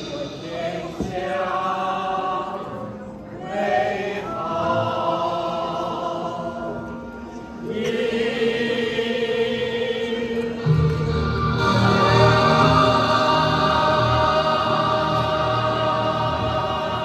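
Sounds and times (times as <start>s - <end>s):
small choir singing: 0.0s - 17.0s.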